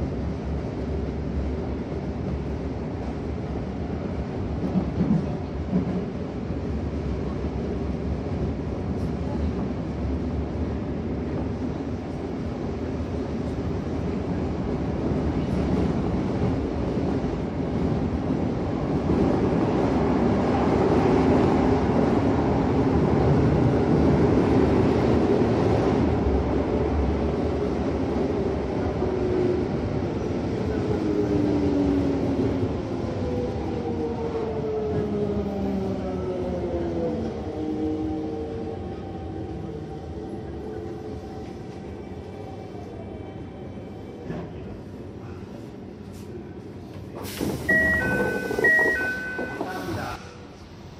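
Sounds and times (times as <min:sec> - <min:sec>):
subway train rumbling: 0:00.0 - 0:50.9.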